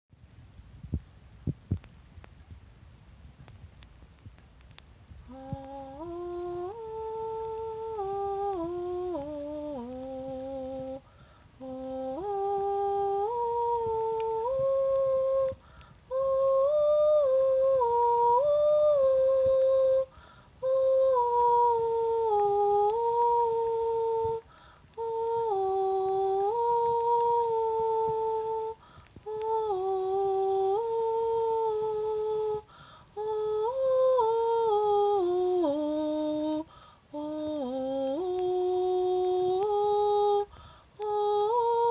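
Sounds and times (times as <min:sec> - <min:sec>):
person humming a slow melody: 0:05.2 - 0:41.9.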